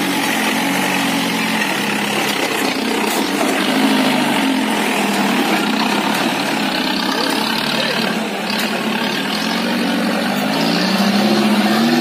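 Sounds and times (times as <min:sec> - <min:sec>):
jeep engine at low revs: 0:00.0 - 0:12.0.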